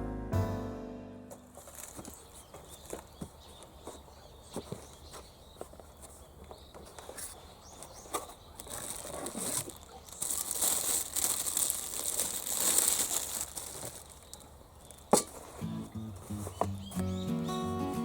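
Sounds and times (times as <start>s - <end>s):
rustling crinkling: 1.3s - 16.9s.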